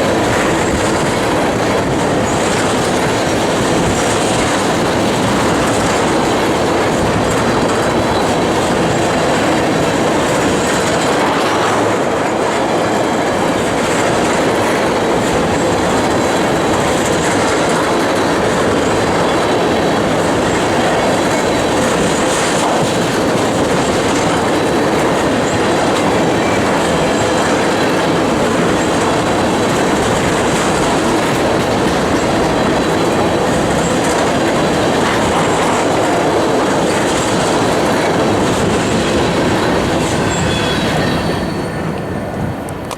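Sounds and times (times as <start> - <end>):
freight train wheels on rails: 0.0 - 42.9.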